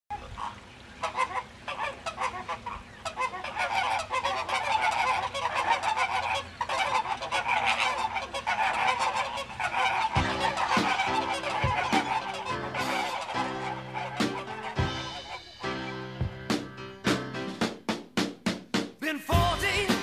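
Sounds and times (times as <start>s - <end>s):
flamingos honking: 0.1s - 17.6s.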